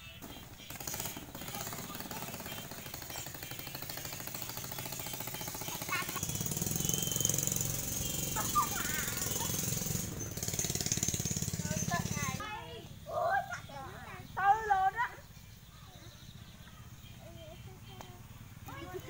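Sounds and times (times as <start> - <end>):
children's voices: 0.0 - 10.2, 11.4 - 19.0
small engine chugging: 0.0 - 19.0.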